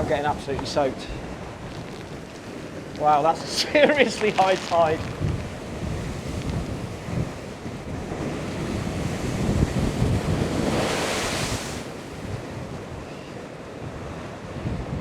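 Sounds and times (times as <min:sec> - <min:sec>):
waves breaking against a sea wall: 0:00.0 - 0:15.0
wind buffeting microphone: 0:00.0 - 0:15.0.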